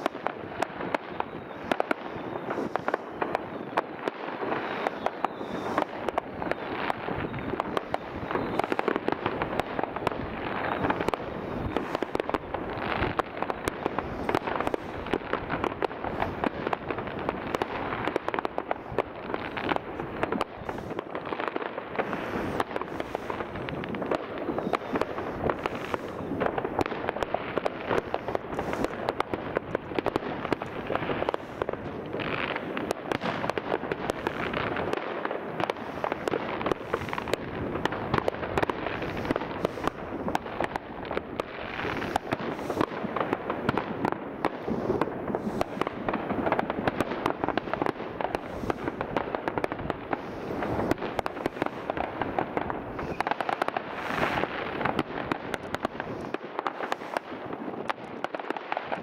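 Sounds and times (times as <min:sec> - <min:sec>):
fireworks crackle of bangs: 0:00.0 - 0:59.0.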